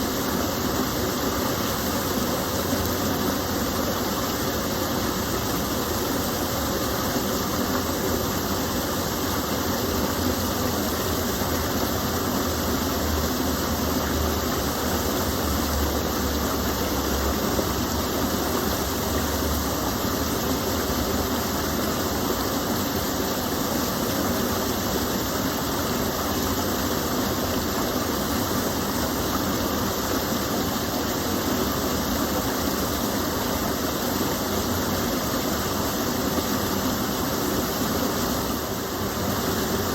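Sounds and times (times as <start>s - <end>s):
stream of water rushing: 0.0s - 39.9s.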